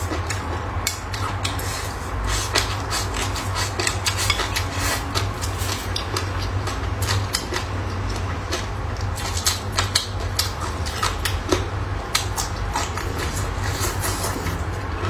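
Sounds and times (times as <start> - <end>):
chewing crunchy cucumber peel: 0.0 - 15.0
steady low hum: 0.0 - 15.0.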